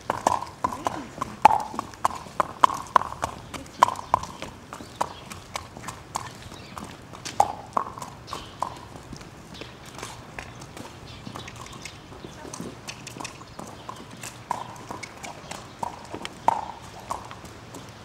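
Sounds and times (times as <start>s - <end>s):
horse hooves clip-clopping on pavement: 0.0s - 18.0s.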